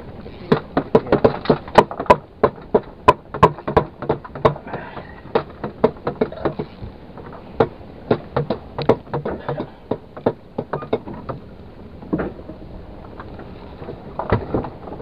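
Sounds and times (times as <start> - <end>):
sharp irregular knocks: 0.5 - 15.0.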